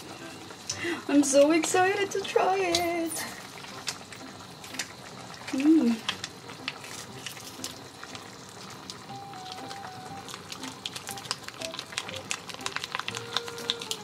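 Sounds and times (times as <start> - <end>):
pot of broth bubbling: 0.0 - 14.0
soft background music: 0.0 - 14.0.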